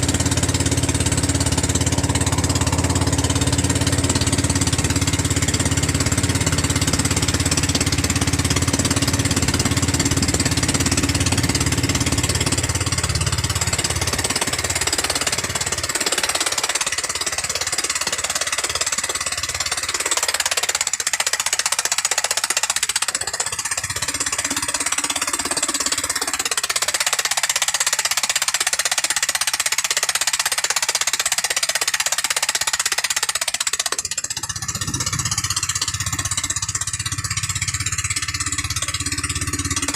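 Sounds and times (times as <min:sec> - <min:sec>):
gasoline engine rattling: 0:00.0 - 0:39.9.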